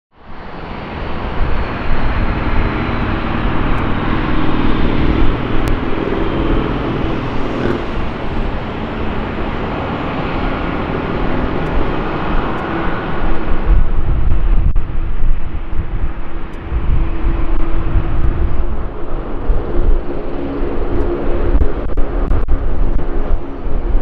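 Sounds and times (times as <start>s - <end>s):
jet engine rumble and whine: 0.2s - 24.0s.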